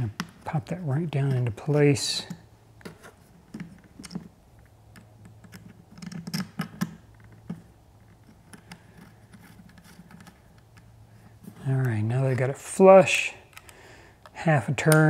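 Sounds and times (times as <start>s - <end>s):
hex key clicking and scraping plastic: 1.3s - 11.8s, 13.4s - 15.0s.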